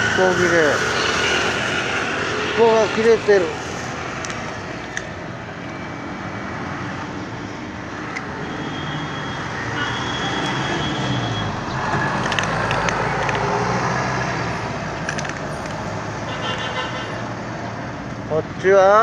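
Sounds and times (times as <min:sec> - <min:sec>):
city road traffic: 0:00.0 - 0:19.0.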